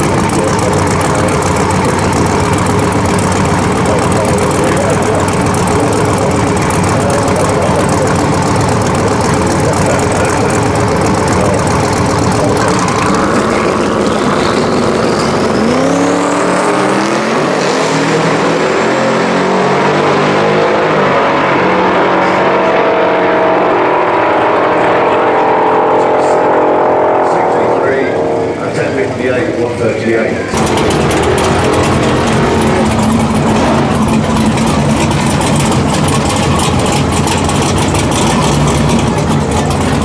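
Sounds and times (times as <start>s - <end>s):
drag car engine revving: 0.0s - 40.0s.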